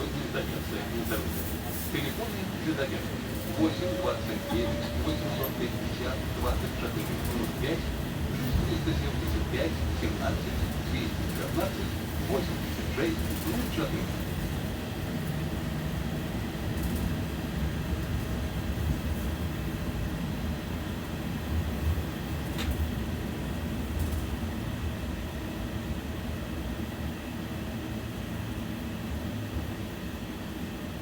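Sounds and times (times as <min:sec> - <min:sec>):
tram low rumble: 0:00.0 - 0:31.0.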